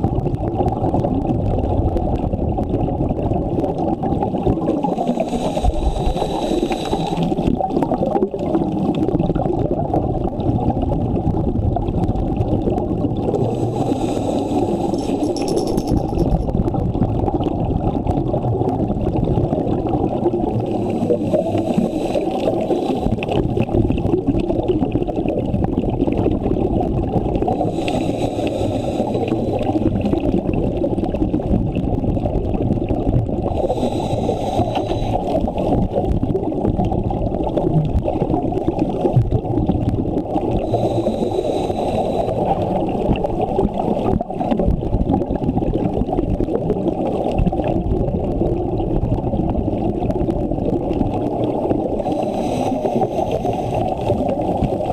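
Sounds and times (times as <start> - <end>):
muffled underwater rumble: 0.0 - 54.9
regulator bubbles gurgling: 0.0 - 54.9.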